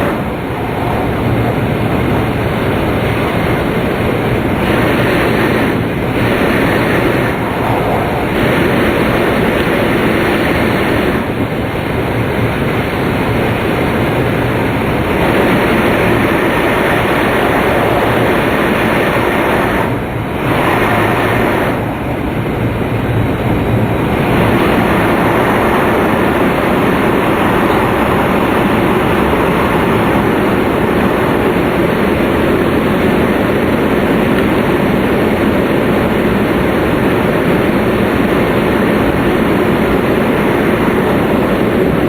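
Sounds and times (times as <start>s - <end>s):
train cabin wind and rail noise: 0.0s - 42.0s.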